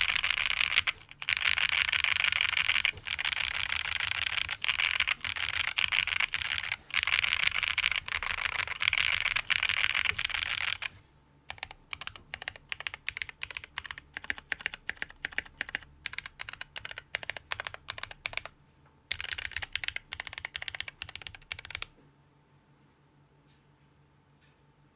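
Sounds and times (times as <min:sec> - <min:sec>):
typing on mechanical keyboard: 0:00.0 - 0:21.9.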